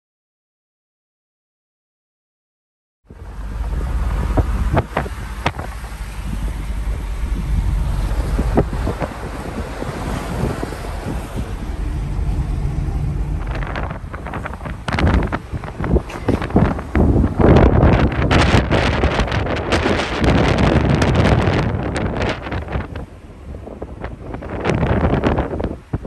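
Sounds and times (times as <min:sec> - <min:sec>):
car road and engine rumble: 0:03.1 - 0:26.0
wind buffeting microphone: 0:03.1 - 0:26.0.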